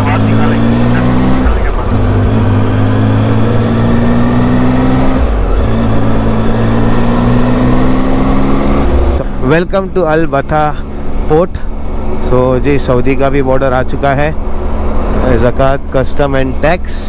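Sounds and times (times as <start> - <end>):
motorcycle engine accelerating: 0.0 - 16.6.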